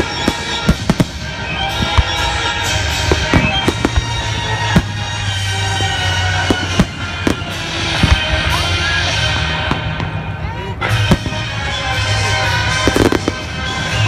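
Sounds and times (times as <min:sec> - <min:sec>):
fireworks bangs and cracks: 0:00.0 - 0:14.0.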